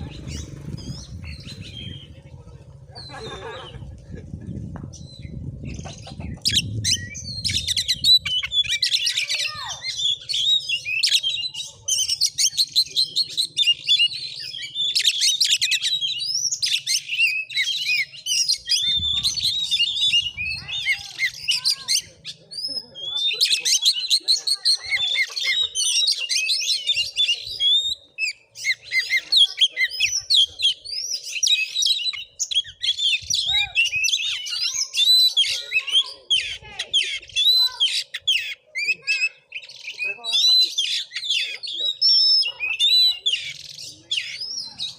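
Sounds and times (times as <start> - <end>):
magpie-robin singing: 0.0 - 2.4, 4.9 - 44.9.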